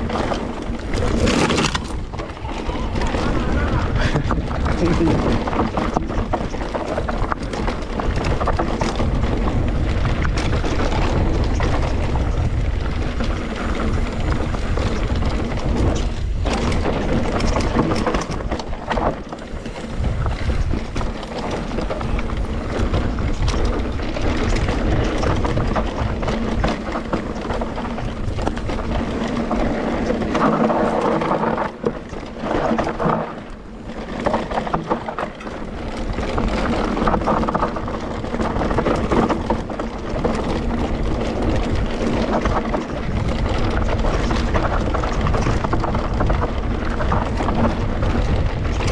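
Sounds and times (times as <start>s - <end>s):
bike rattling and knocking: 0.0s - 48.9s
tyres rumbling over dirt: 0.0s - 48.9s
wind on microphone: 0.0s - 48.9s.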